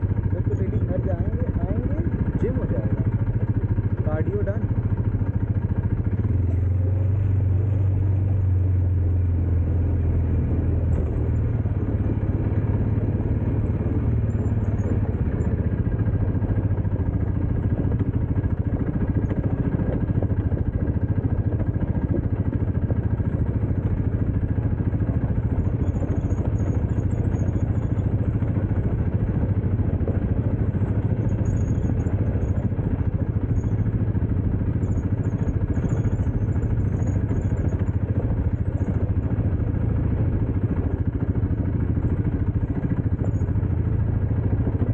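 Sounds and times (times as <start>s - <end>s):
continuous rough noise: 0.0s - 44.9s
dirt bike engine running: 0.0s - 44.9s.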